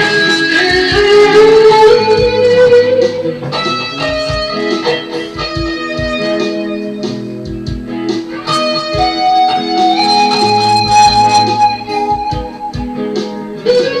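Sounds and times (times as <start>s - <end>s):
electric guitar lead: 0.0s - 14.0s
low beat and bass line: 0.0s - 14.0s.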